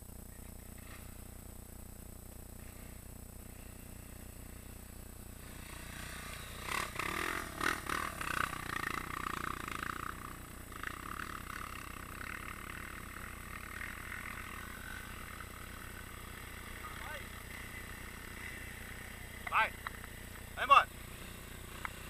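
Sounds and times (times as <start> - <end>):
off-road motorcycle engines: 0.0 - 22.0.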